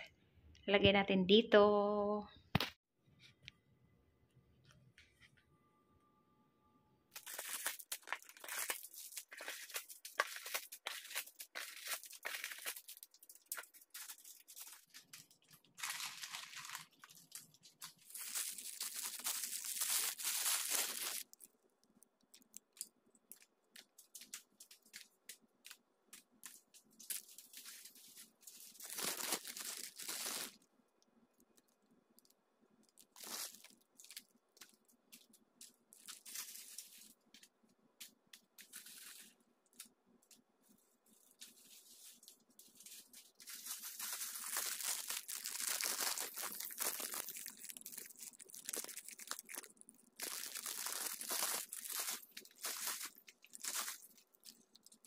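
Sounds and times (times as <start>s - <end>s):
plastic wrappers crinkling: 7.1s - 30.6s, 31.4s - 39.9s, 40.6s - 55.0s.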